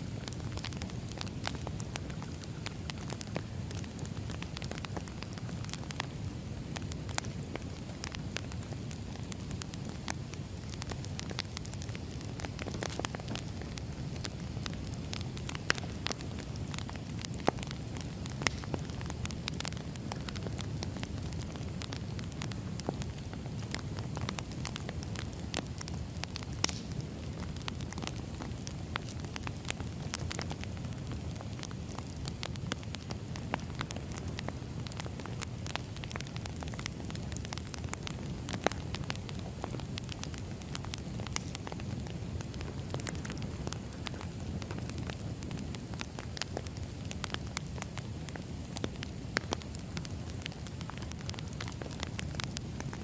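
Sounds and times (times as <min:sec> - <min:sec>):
firewood crackling and popping: 0:00.0 - 0:53.0
low fire rumble: 0:00.0 - 0:53.0.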